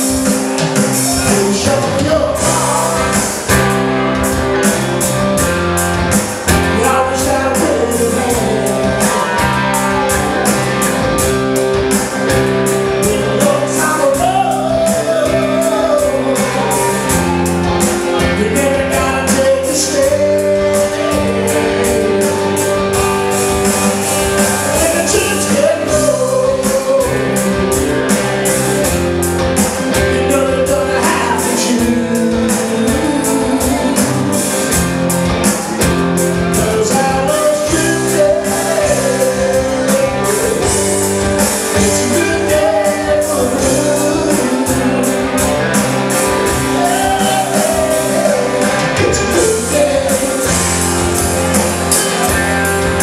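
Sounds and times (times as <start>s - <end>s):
person singing: 0.0s - 5.4s, 6.4s - 11.3s, 12.0s - 28.8s, 29.6s - 53.0s
blues band playing live: 0.0s - 53.0s
guitar: 0.0s - 53.0s
steady drum beat: 0.0s - 53.0s.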